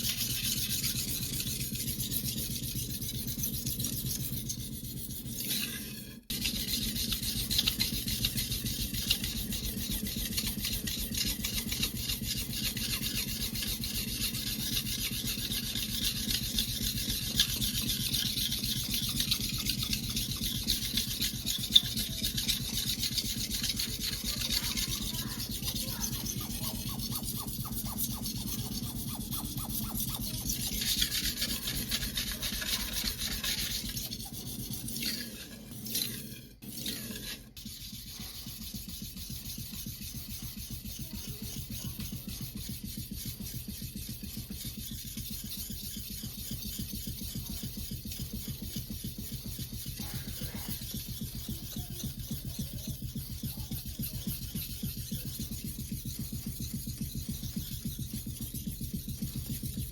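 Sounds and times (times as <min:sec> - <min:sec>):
knife sharpening on whetstone: 0:00.0 - 0:59.8.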